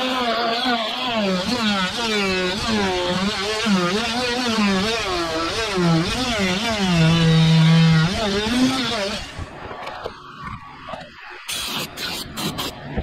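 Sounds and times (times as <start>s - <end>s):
oscillating multi-tool whine: 0.0s - 13.0s.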